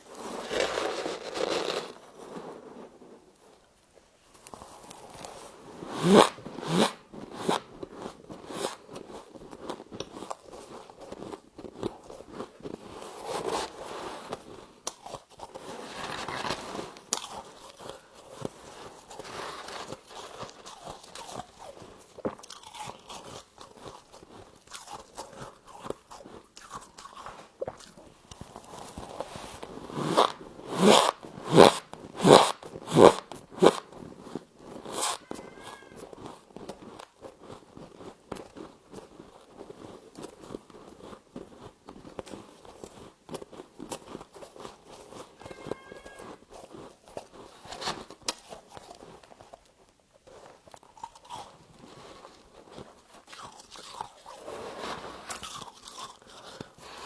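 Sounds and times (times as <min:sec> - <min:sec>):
person crunching frost: 0:00.0 - 0:02.7, 0:04.5 - 0:57.0.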